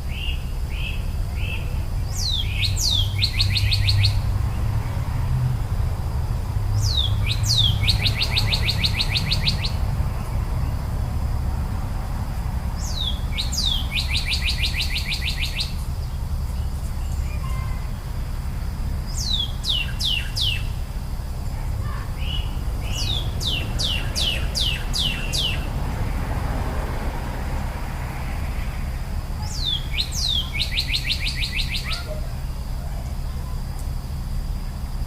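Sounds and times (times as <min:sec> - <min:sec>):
steady low rumble: 0:00.0 - 0:31.3
songbird singing: 0:00.0 - 0:35.0.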